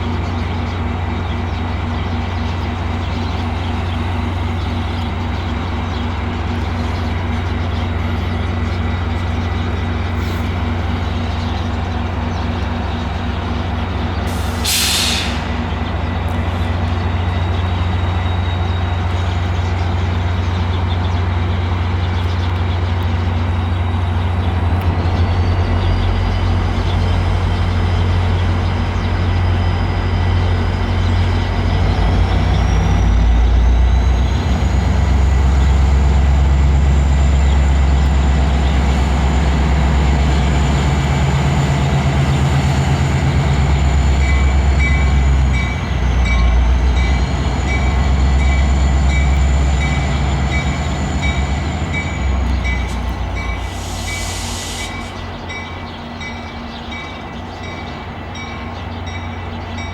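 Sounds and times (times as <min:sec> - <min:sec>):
diesel locomotive rumble: 0:00.0 - 0:59.9.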